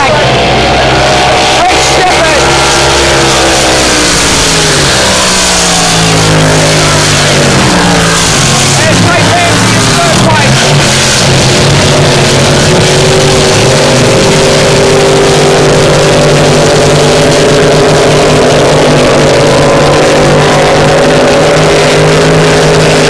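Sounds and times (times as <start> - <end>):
racing powerboat engines roaring: 0.0 - 23.0.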